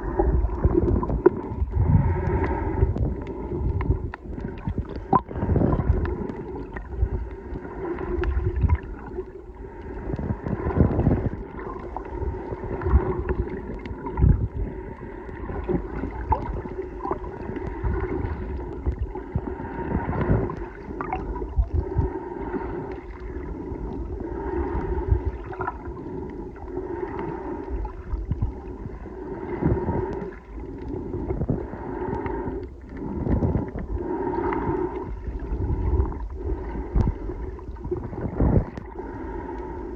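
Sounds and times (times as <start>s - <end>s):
water rushing underwater: 0.0s - 39.9s.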